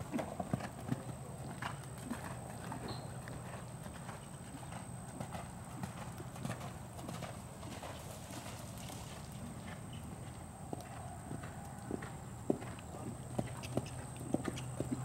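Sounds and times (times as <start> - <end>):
horse hooves on sand: 1.4 - 15.0.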